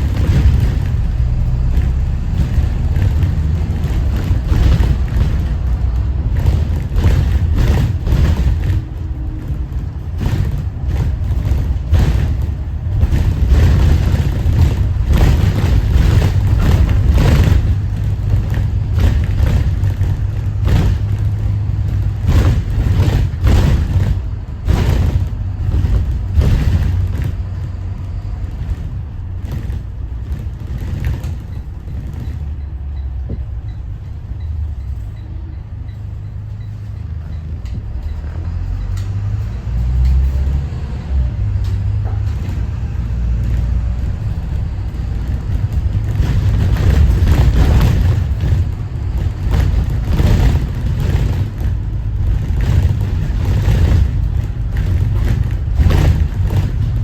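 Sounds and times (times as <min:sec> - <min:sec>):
bus diesel engine drone: 0:00.0 - 0:57.0
knocks and rattles: 0:00.0 - 0:57.0.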